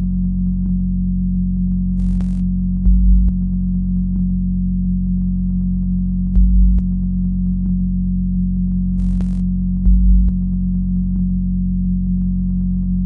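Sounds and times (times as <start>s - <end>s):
deep bass pulse: 0.0s - 13.0s
synthesizer drone: 0.0s - 13.0s.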